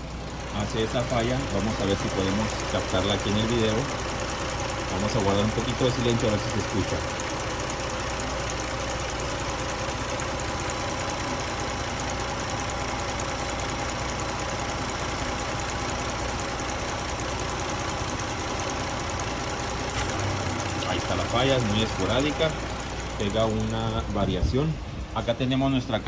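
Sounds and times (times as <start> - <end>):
car engine idling with misfire: 0.0 - 26.0.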